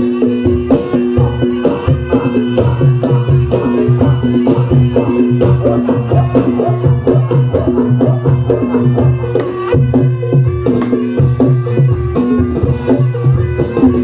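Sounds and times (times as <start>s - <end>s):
drums and tuned percussion playing: 0.0s - 14.0s.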